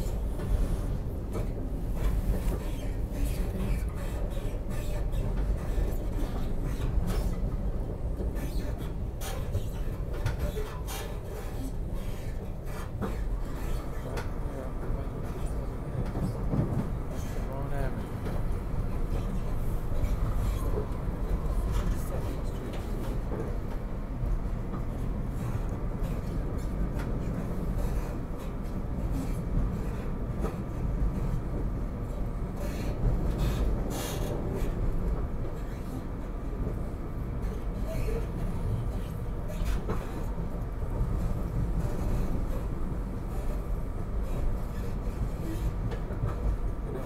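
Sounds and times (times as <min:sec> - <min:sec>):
train car rumble: 0:00.0 - 0:47.0.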